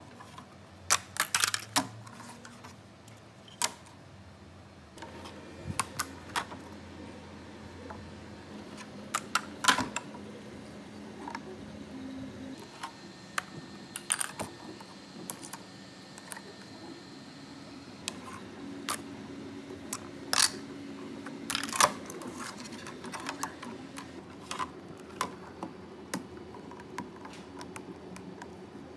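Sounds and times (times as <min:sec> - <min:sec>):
faint steady hum: 0:04.8 - 0:28.9.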